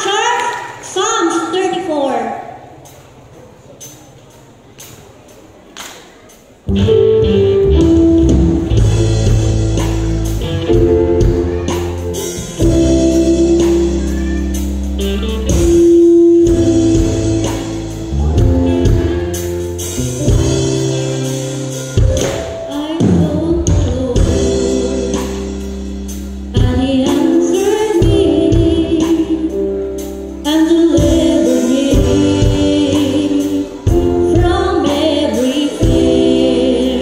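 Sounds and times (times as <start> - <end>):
instrumental chords over bass line: 6.7 - 37.0.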